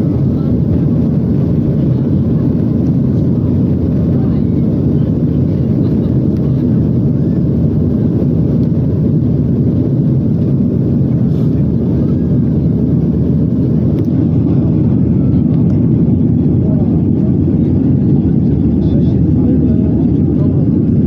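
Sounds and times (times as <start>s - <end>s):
airplane taking off: 0.0s - 21.0s.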